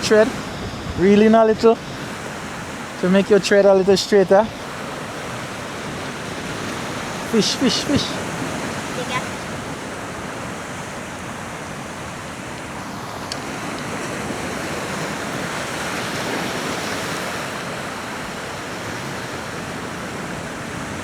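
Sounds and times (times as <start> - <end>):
sea surf washing on rocks: 0.0 - 21.0.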